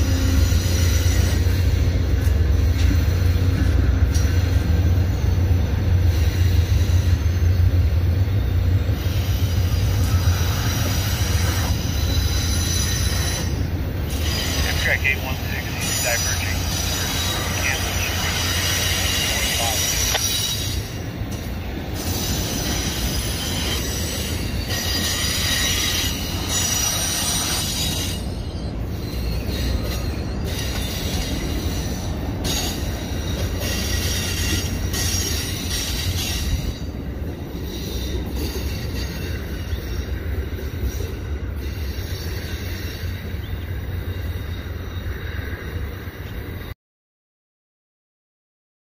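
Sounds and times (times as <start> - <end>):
train wheels squealing: 0.0 - 14.9, 15.8 - 46.7
train rumbling: 0.0 - 46.8.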